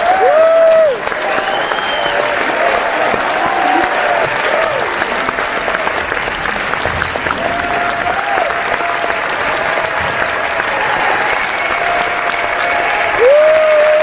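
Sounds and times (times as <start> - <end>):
crowd applauding: 0.0 - 14.0
drawn-out cheers: 0.0 - 14.0.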